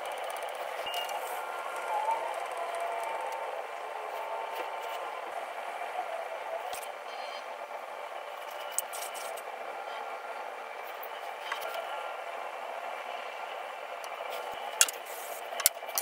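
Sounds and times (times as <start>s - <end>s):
potter's wheel running: 0.0s - 16.0s.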